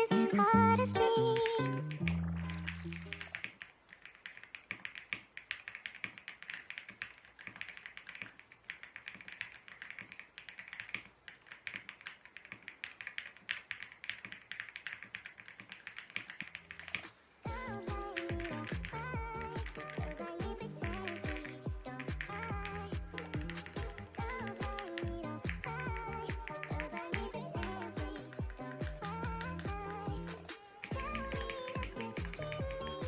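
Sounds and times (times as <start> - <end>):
mechanical keyboard typing: 1.0 - 33.0.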